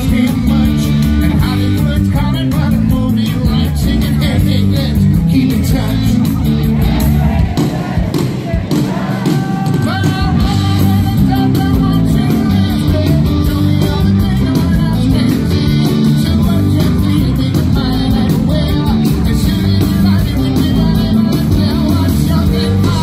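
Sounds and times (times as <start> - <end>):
live rock band: 0.0 - 23.0
person singing: 0.0 - 23.0.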